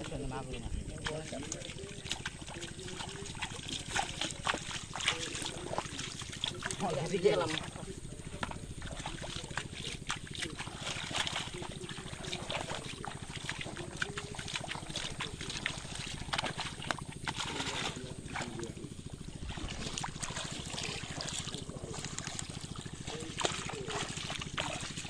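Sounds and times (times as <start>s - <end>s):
small sharp splashes and knocks: 0.0s - 25.0s
water splashing and trickling: 0.0s - 25.0s.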